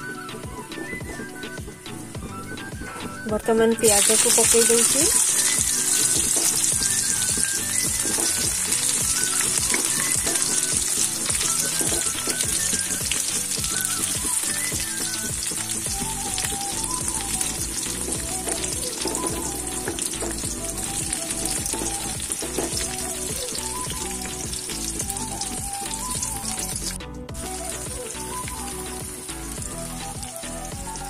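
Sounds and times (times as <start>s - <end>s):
onions frying in hot oil: 3.4s - 31.0s.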